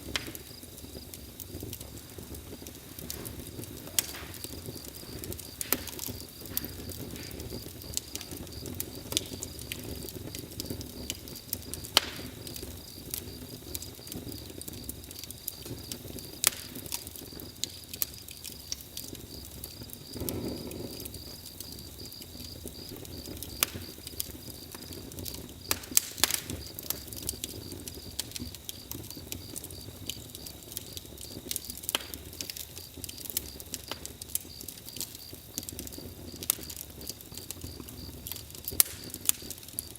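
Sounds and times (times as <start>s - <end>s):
campfire crackling and popping: 0.0s - 39.9s
low rustle of burning wood: 0.0s - 39.9s.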